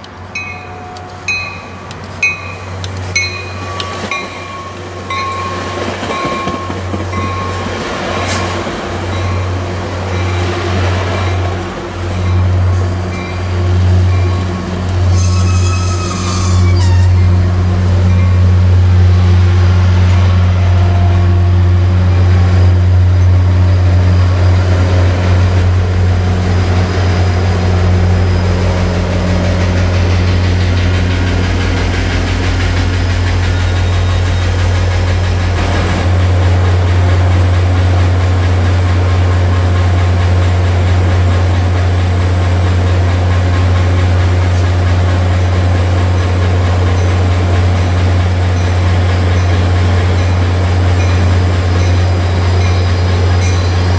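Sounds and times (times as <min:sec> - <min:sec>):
locomotive engine drone: 0:00.0 - 0:53.9.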